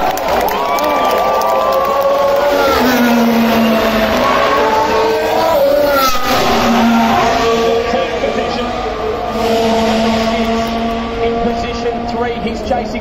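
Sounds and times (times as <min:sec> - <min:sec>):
racing car passing at speed: 0:00.1 - 0:13.0.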